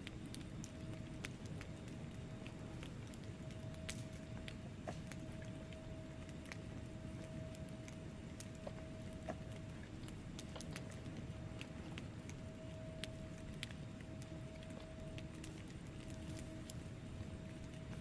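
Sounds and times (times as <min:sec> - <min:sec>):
low rumble of flame: 0:00.0 - 0:18.0
wood fire crackling and popping: 0:00.0 - 0:18.0.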